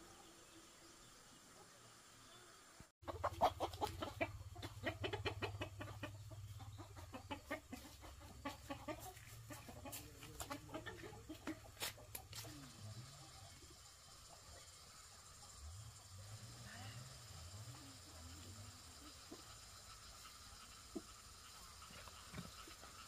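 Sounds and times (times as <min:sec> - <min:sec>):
chickens clucking: 0:03.0 - 0:16.4, 0:17.0 - 0:23.0.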